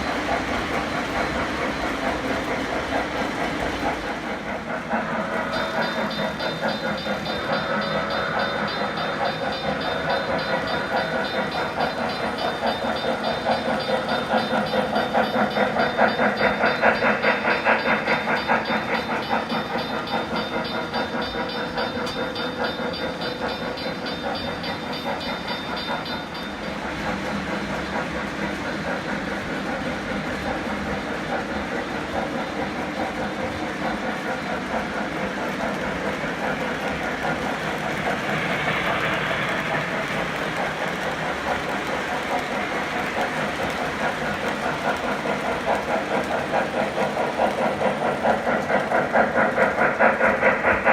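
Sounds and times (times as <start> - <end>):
model train wheels clicking: 0.0 - 50.9.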